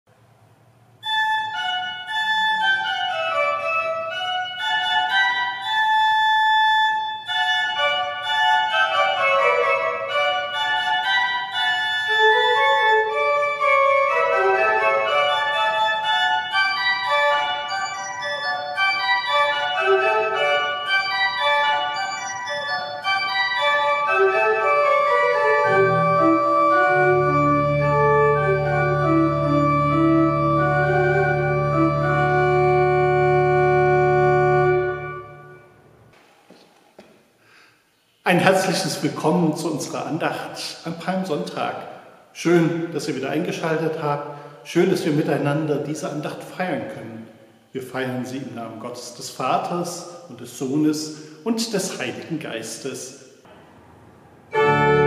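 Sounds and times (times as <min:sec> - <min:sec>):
organ music: 0:00.9 - 0:36.2, 0:38.3 - 0:55.0.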